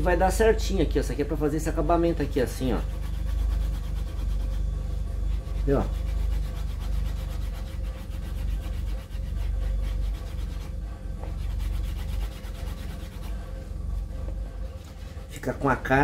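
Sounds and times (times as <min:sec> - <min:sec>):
wooden slicker rubbing leather: 0:01.6 - 0:16.0.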